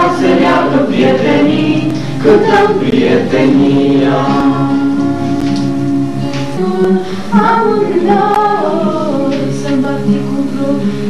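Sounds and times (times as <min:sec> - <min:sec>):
group singing a folk song: 0:00.0 - 0:11.0.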